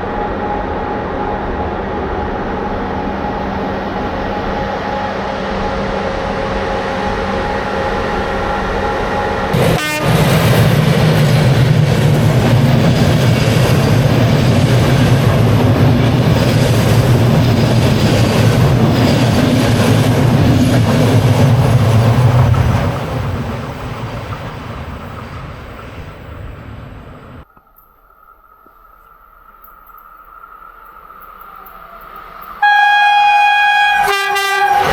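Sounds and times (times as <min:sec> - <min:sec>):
train rumbling past: 0:00.0 - 0:27.5, 0:28.4 - 0:34.9.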